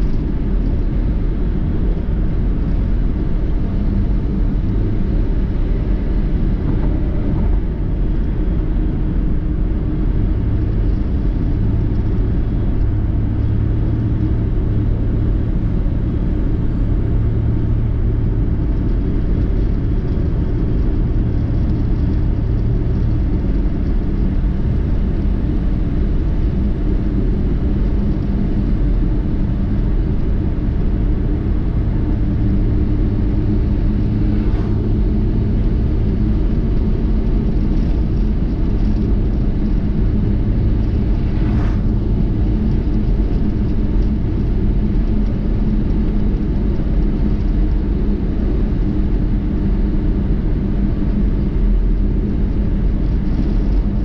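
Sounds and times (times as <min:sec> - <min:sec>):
car road rumble: 0:00.0 - 0:54.0
low steady hum: 0:00.0 - 0:54.0.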